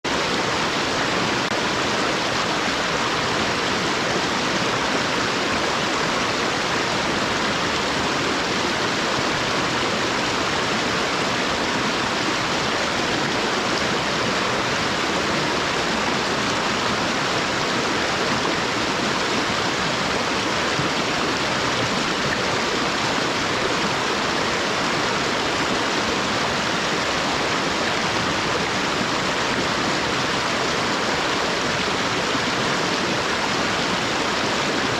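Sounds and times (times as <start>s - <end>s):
stream flowing: 0.0s - 34.9s.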